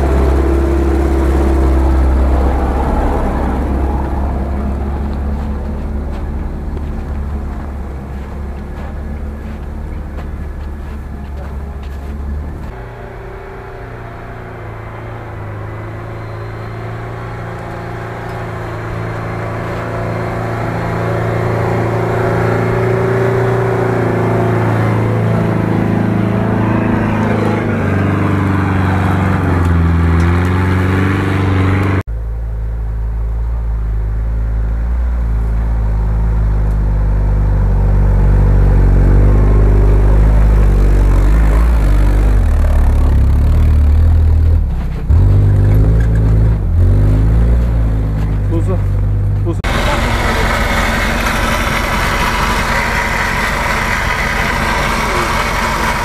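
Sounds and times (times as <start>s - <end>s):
wheels churning through snow: 0.0s - 32.0s, 34.9s - 56.0s
suv engine revving: 0.0s - 32.1s, 34.9s - 56.0s
deep engine under load: 0.0s - 56.0s.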